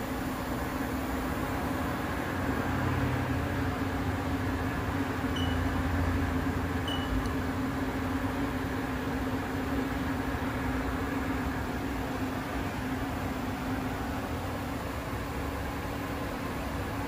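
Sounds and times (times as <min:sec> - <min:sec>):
coolant spraying hiss: 0:00.0 - 0:17.0
milling machine hum: 0:00.0 - 0:17.0.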